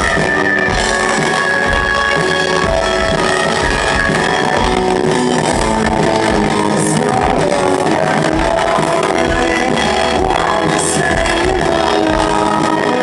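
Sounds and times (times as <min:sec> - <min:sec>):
drums and bass: 0:00.0 - 0:13.0
electric guitar held notes: 0:00.0 - 0:13.0.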